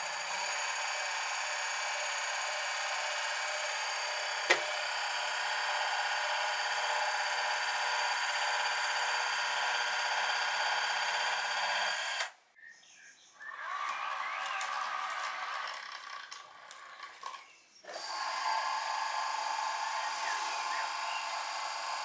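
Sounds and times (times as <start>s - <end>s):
small electric motor whining: 0.0s - 12.4s, 13.5s - 22.0s.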